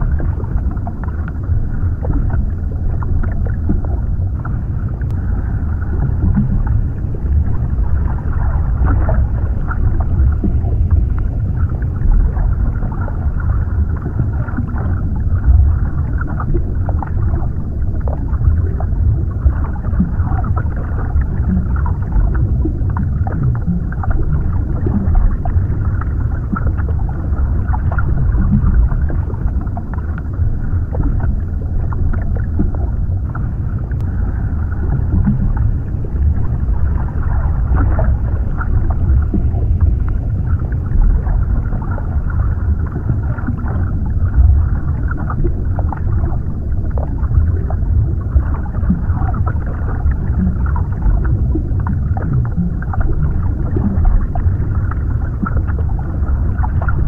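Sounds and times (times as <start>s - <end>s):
underwater low rumble: 0.0s - 57.0s.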